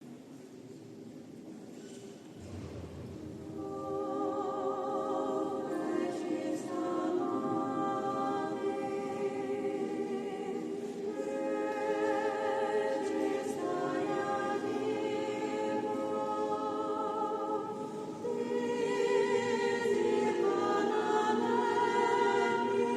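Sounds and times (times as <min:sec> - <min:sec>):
choir singing in harmony: 0:02.5 - 0:22.9.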